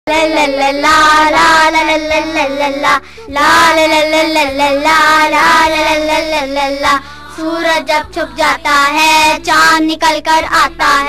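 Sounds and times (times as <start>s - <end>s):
child singing: 0.1s - 11.0s.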